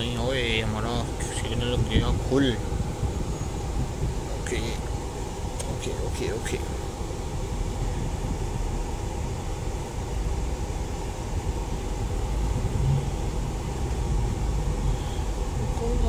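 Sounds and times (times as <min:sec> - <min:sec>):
air-conditioning blower: 0:00.0 - 0:16.0
car cabin rumble: 0:00.0 - 0:16.0
car engine running: 0:00.0 - 0:16.0.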